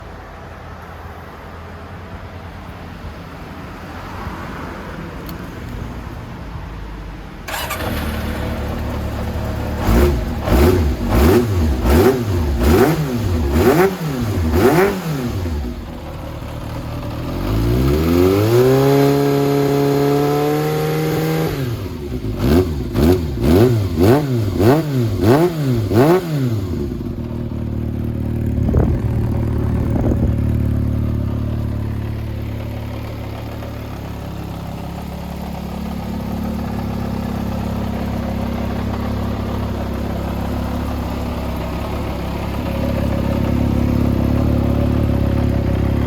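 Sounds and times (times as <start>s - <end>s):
motorcycle engine revving: 7.5s - 46.0s.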